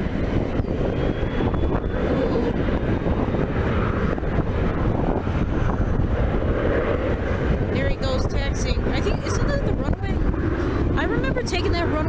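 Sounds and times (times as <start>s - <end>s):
distant jet engines taxiing: 0.0s - 12.0s
wind buffeting microphone: 0.0s - 12.0s.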